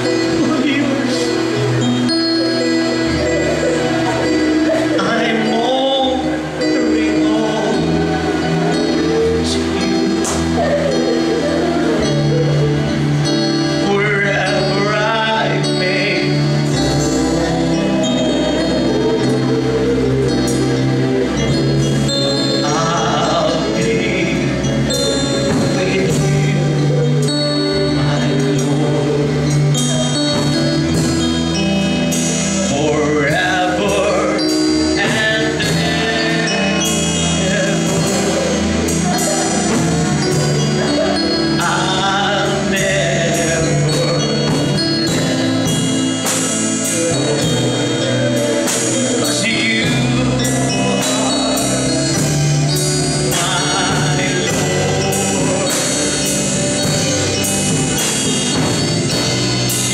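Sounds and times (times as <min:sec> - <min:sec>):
drums keeping a steady beat: 0:00.0 - 0:59.9
man singing: 0:00.0 - 0:59.9
sustained band chords: 0:00.0 - 0:59.9.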